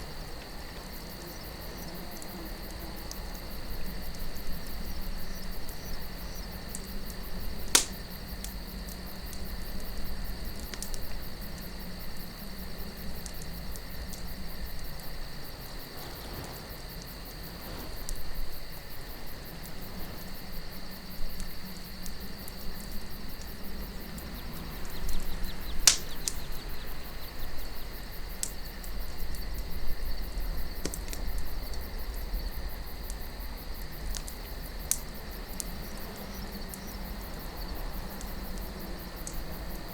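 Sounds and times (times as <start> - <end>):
campfire crackling: 0.0 - 39.9
crickets chirping: 0.0 - 39.9
low rumble of wind: 0.0 - 39.9
sharp loud fire snaps: 0.0 - 39.9.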